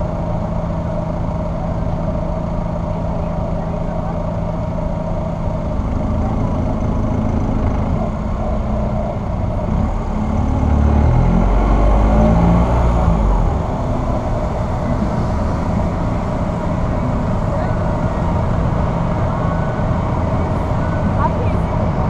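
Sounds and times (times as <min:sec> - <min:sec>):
car engine: 0:00.0 - 0:22.0
road and wind noise: 0:00.0 - 0:22.0.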